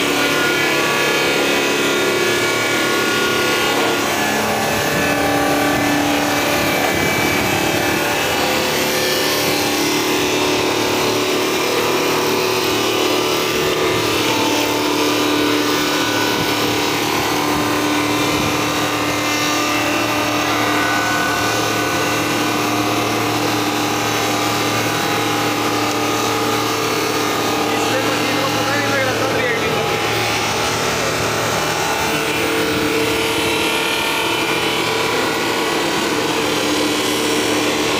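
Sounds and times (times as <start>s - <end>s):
sawdust machine grinding log: 0.0s - 37.9s.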